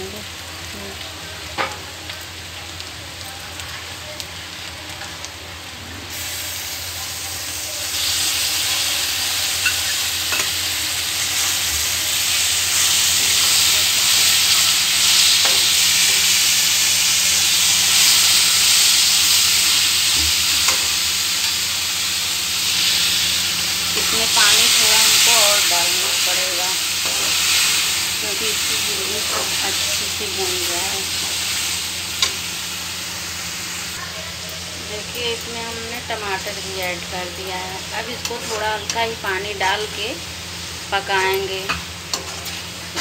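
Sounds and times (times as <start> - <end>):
onions frying in oil: 0.0 - 43.0.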